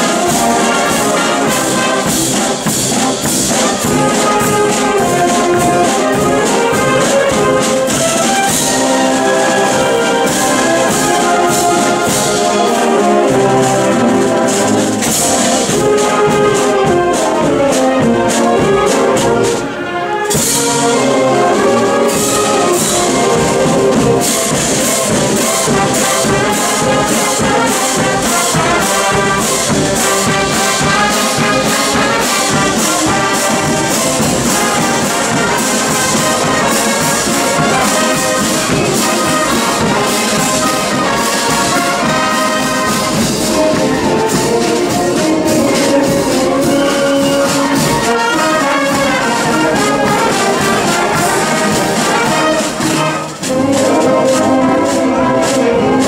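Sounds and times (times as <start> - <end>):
brass band playing: 0.0 - 56.0
percussion keeping steady beat: 0.0 - 56.0.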